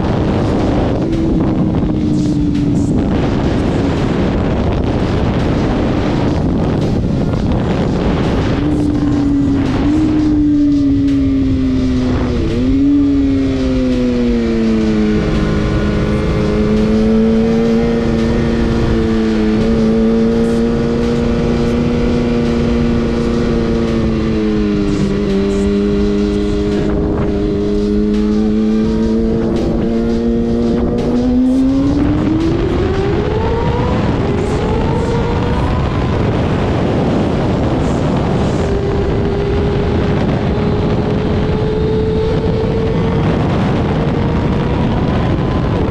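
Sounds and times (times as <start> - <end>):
motorcycle engine running: 0.0 - 45.9
wind rushing: 0.0 - 45.9.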